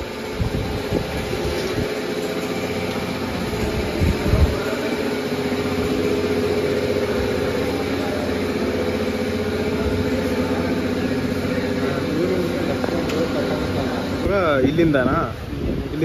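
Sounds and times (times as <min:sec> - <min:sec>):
motorcycle engine idling: 0:00.0 - 0:15.5.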